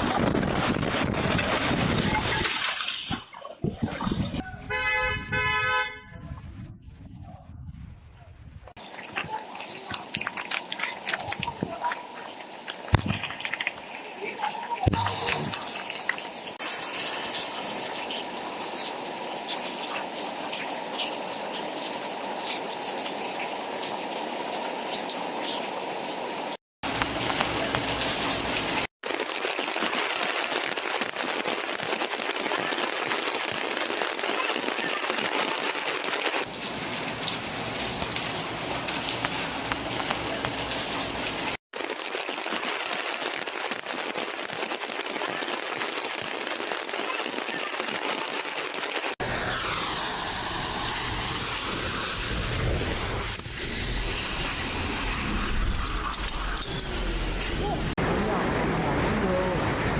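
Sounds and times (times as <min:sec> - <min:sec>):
heavy rain downpour: 0:00.0 - 0:02.9, 0:08.7 - 0:59.9
raindrop hits: 0:00.0 - 0:05.6, 0:08.5 - 0:25.6, 0:26.8 - 0:59.9.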